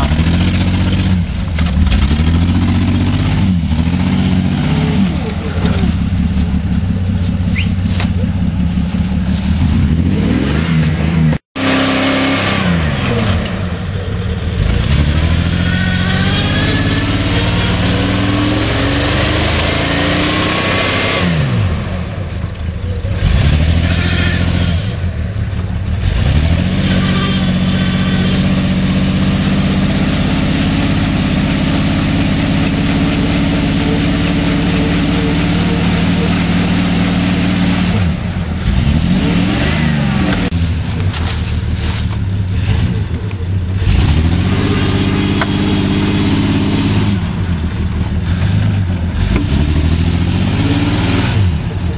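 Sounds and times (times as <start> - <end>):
vehicle engine revving: 0.0 - 51.9.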